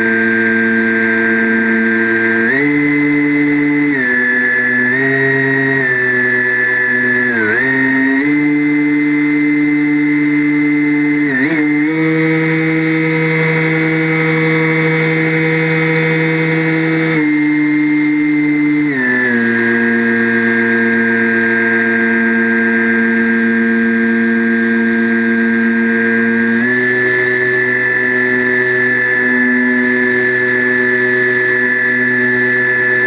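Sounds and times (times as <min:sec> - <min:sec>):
model aircraft motor humming: 0:00.0 - 0:33.0.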